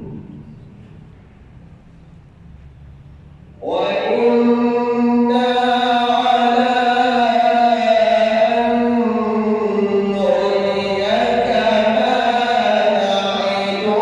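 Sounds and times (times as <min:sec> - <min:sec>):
man chanting melodically: 0:00.0 - 0:00.8, 0:03.6 - 0:14.0.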